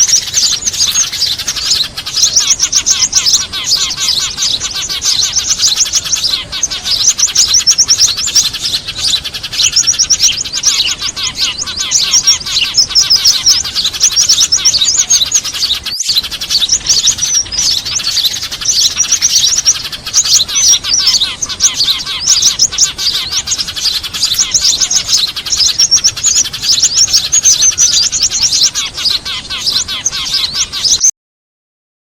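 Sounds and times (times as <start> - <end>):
flock of small birds chirping: 0.0 - 31.1.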